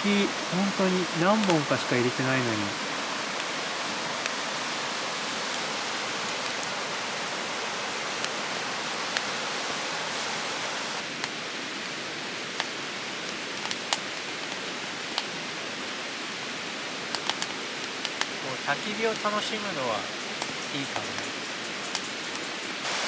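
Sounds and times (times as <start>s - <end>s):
wood crackling and popping: 0.0s - 10.2s, 11.0s - 23.0s.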